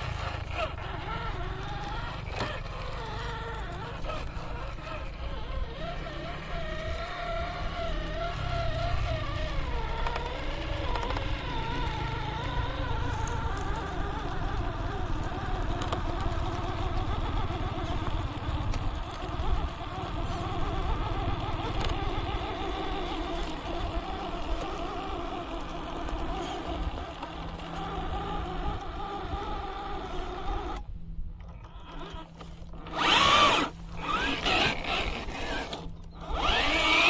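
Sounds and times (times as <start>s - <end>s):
rc car motor whine: 0.0s - 37.0s.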